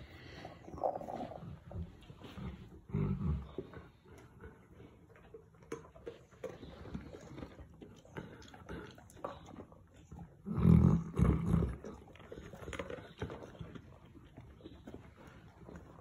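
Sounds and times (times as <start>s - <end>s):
dogs sniffing and eating: 0.0s - 16.0s.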